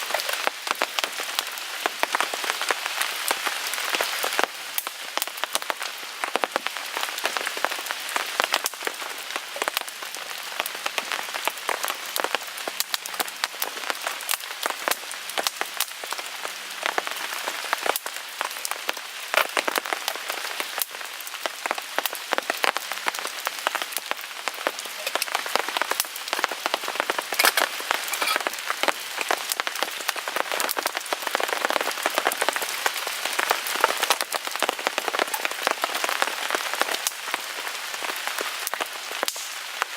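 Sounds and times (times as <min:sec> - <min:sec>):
rain on a tarp: 0:00.0 - 0:39.9
wood fire crackling: 0:00.0 - 0:39.9.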